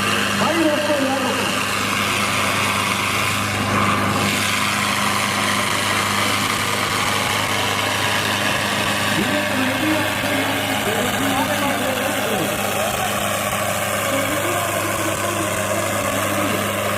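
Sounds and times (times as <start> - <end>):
tractor diesel engine idling: 0.0 - 16.9.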